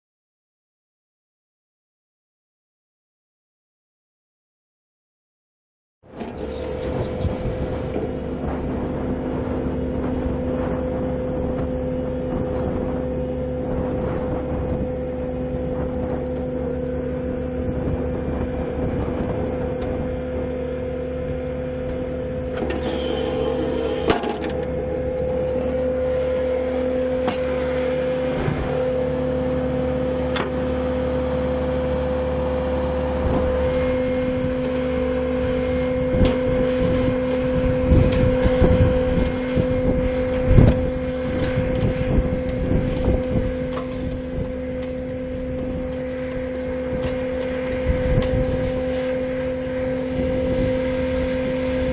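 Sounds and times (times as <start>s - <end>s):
heavy machine engine running: 6.1s - 51.9s.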